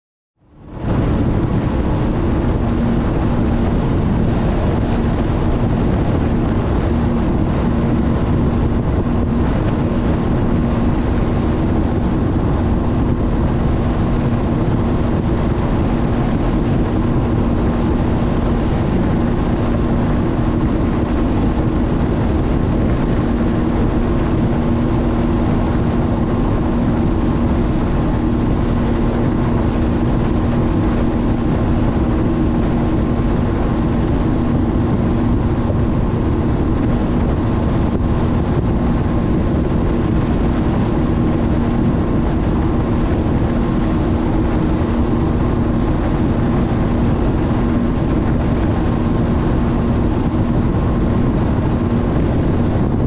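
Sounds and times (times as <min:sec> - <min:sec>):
watercraft engine drone: 0:00.4 - 0:53.0
wind rumbling on microphone: 0:00.4 - 0:53.0.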